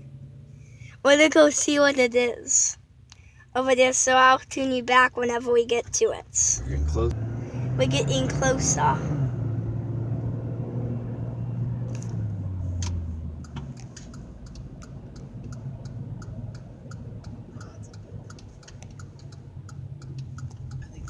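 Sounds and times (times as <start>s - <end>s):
car engine and road hum: 0.0s - 21.0s
turn signal ticking: 0.0s - 21.0s.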